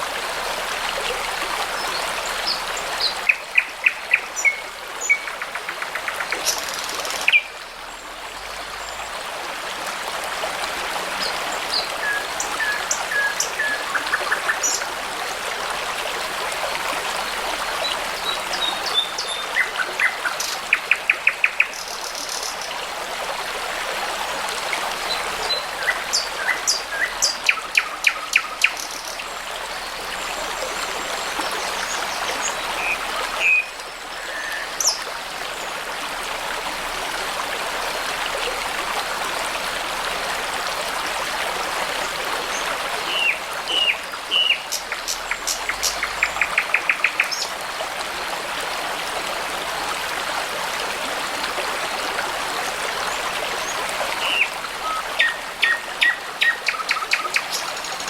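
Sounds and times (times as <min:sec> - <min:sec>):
brook babbling: 0:00.0 - 0:58.0.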